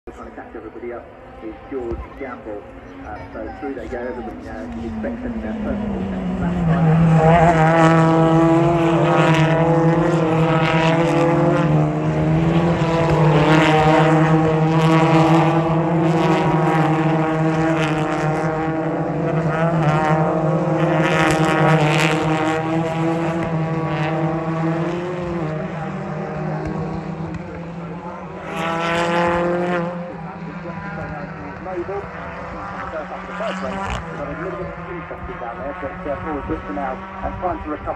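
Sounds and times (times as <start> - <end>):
racing cars engines droning past: 0.1 - 37.9.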